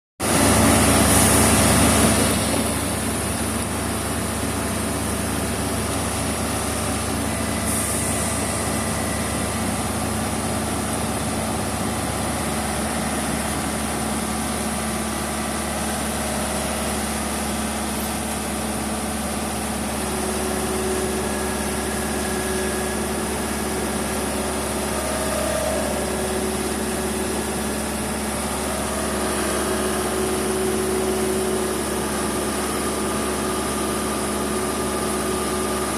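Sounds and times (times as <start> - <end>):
heavy truck engine running: 0.2 - 35.9.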